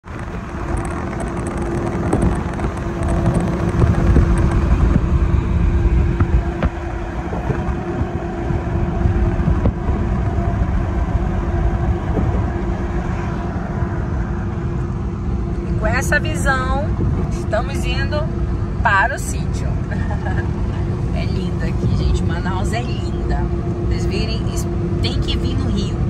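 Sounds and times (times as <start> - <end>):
vehicle road and engine rumble: 0.0 - 26.0.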